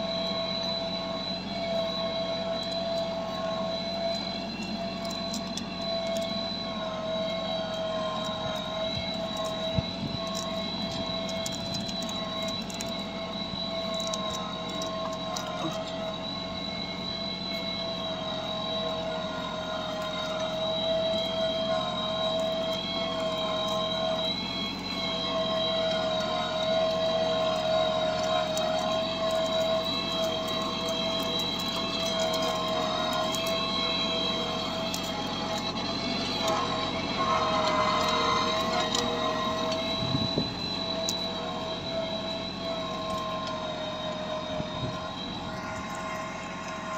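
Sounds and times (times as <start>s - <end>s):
high whine: 0.0s - 46.9s
tractor diesel engine running: 0.0s - 46.9s.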